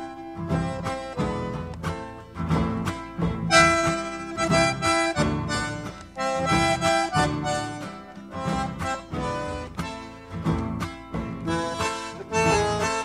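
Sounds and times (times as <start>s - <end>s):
plucked guitar: 0.0s - 13.0s
reedy melody: 0.0s - 13.0s
steady beat: 0.0s - 13.0s.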